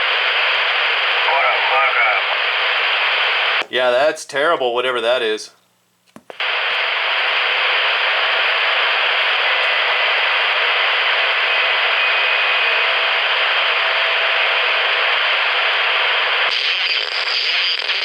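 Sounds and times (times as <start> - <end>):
radio feedback and distortion: 0.0 - 4.0, 6.3 - 18.0.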